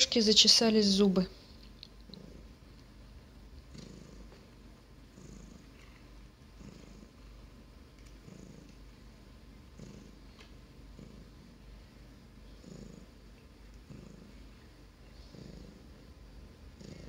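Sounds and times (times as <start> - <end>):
cat purring softly: 1.9 - 17.0.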